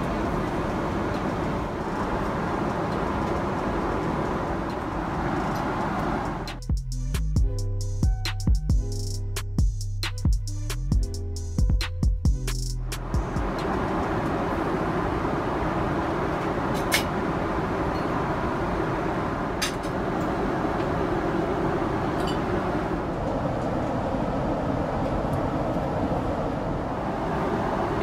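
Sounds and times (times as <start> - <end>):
airplane cabin air and engine noise: 0.0 - 10.4, 11.0 - 28.0.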